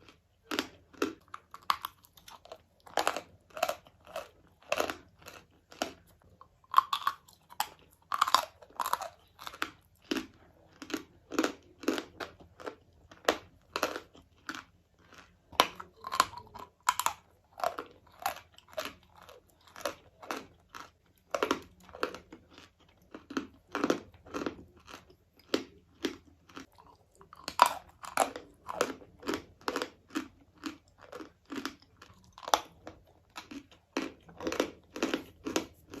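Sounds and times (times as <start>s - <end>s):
chalk being chewed: 0.0s - 36.0s.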